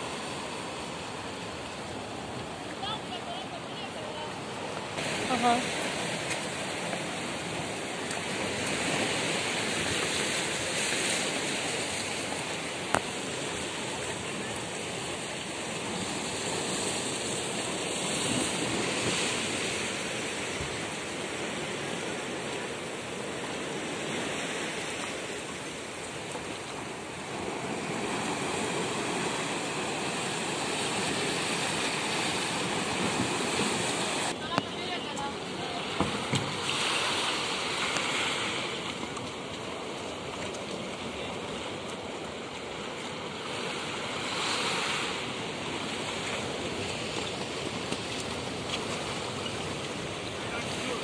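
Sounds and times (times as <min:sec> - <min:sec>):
sea waves breaking on shore: 0:00.0 - 0:51.0.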